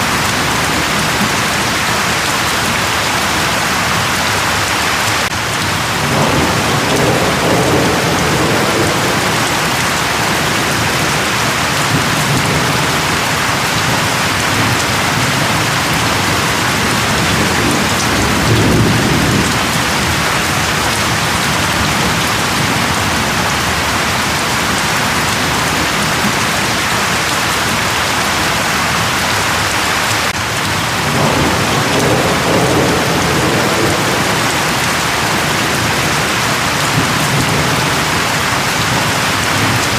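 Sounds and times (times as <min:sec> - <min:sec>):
steady rain falling: 0:00.0 - 0:39.9
thunder rumbling: 0:05.2 - 0:27.8, 0:30.3 - 0:39.9.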